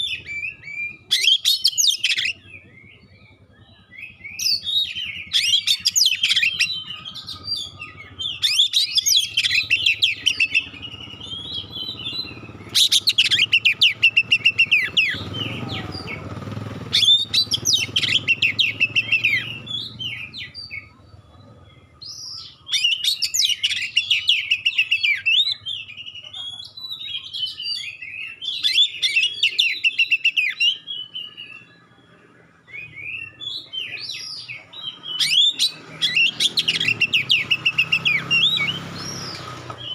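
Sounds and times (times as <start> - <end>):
bird singing varied phrases: 0.0 - 39.9.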